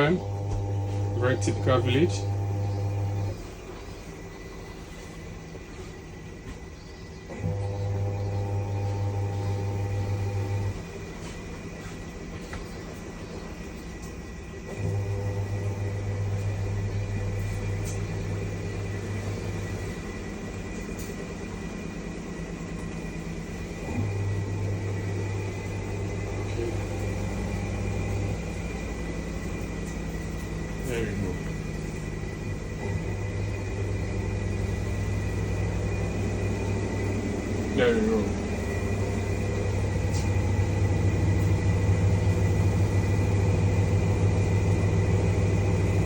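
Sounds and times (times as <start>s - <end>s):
washing machine spinning: 0.0s - 46.0s.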